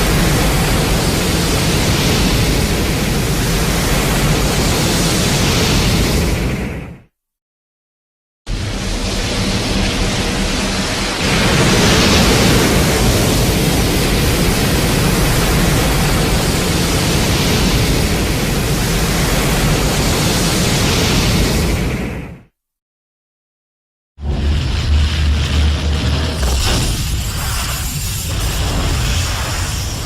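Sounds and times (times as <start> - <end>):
loud steady rushing noise: 0.0 - 6.8, 8.5 - 22.2, 24.2 - 30.0.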